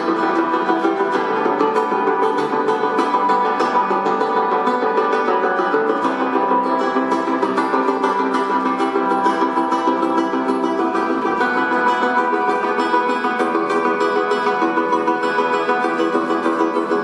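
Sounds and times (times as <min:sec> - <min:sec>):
classical guitar plucked notes: 0:00.0 - 0:17.0.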